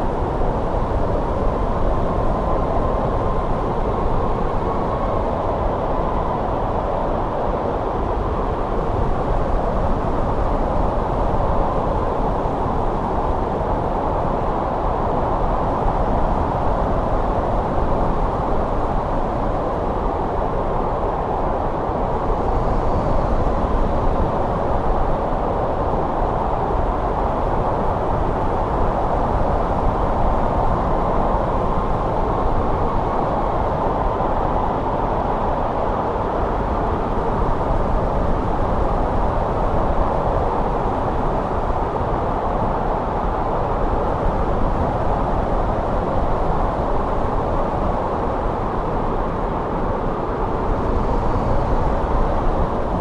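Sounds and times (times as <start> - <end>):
snowstorm wind rushing: 0.0 - 53.0.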